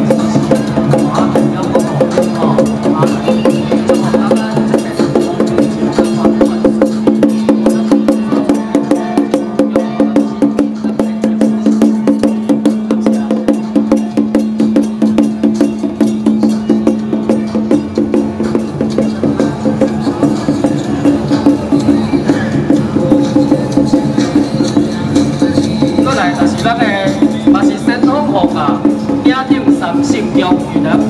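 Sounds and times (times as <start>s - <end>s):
fast percussion strikes: 0.0s - 31.0s.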